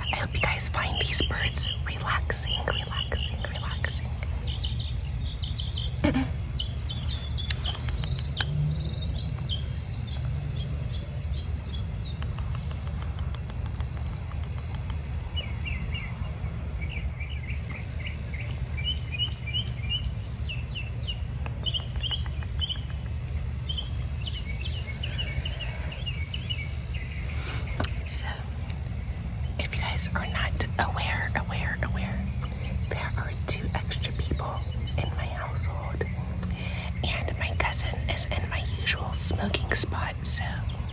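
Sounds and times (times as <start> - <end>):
small birds chirping: 0.0 - 40.9
steady low rumble: 0.0 - 40.9.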